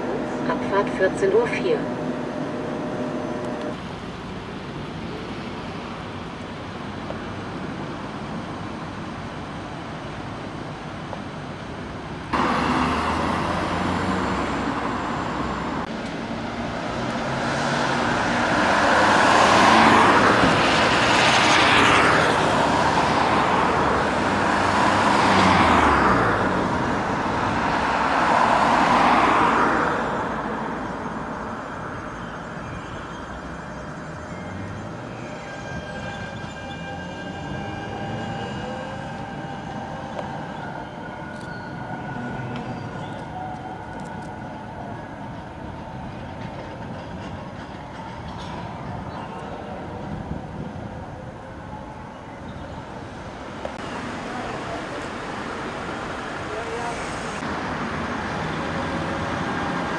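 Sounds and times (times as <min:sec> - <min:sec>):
road vehicles passing: 0:00.0 - 0:59.9
street traffic noise: 0:00.0 - 0:59.9.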